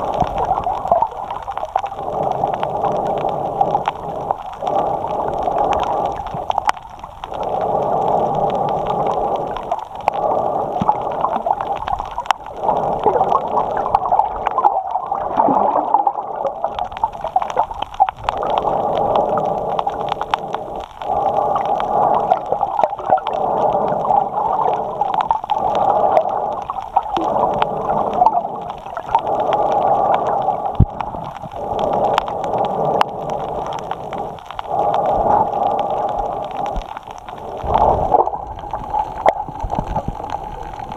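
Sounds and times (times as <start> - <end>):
breathing through a snorkel: 1.3 - 17.6, 18.2 - 39.9.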